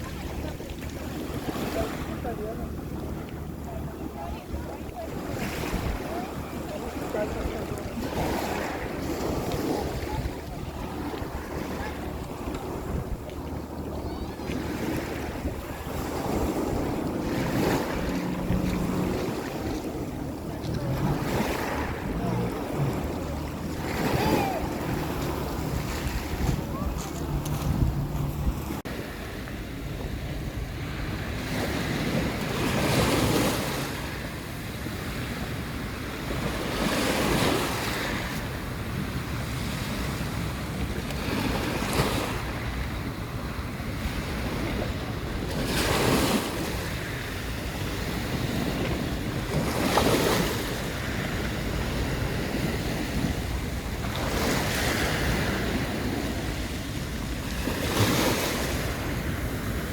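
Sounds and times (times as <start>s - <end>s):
waves breaking on shore: 0.0s - 59.9s
wind rumbling on microphone: 0.0s - 59.9s.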